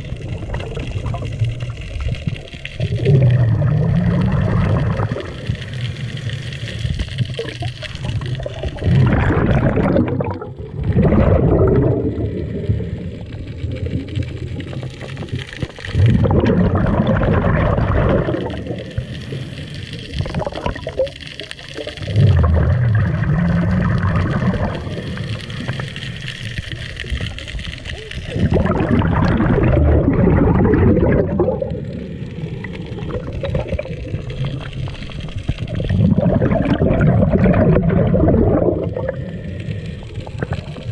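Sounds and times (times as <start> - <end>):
bubbly regulator exhalations: 0.0 - 40.9.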